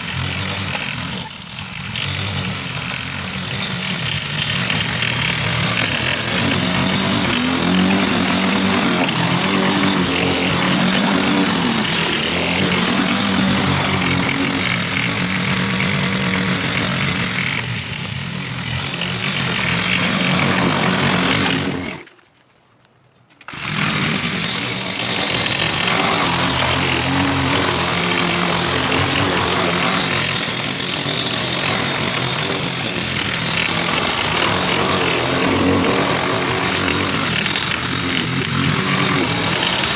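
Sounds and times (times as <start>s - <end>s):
lawn mower engine running: 0.0s - 22.2s, 23.4s - 39.9s.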